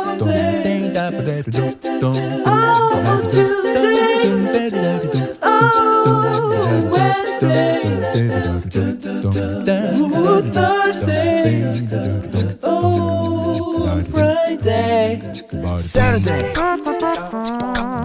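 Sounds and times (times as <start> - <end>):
song with singing over beat: 0.0 - 17.7.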